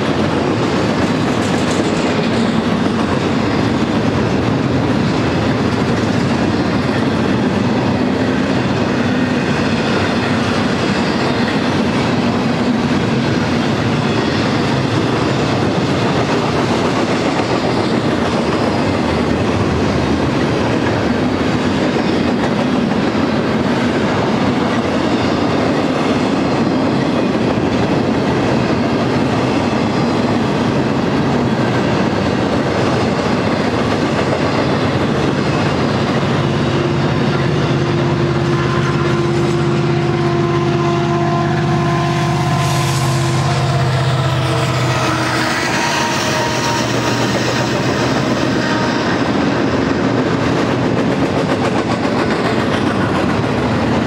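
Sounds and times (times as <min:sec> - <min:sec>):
steel train wheels on rails: 0:00.0 - 0:54.0.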